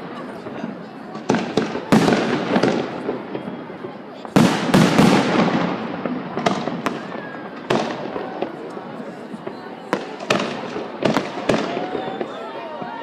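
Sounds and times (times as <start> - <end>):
fireworks bangs with echo: 0.0 - 13.0.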